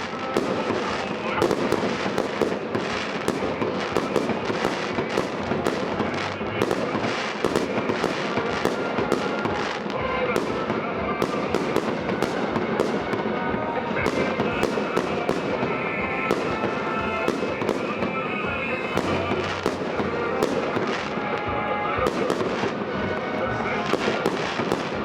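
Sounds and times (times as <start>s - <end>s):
fireworks bangs: 0.0s - 25.0s.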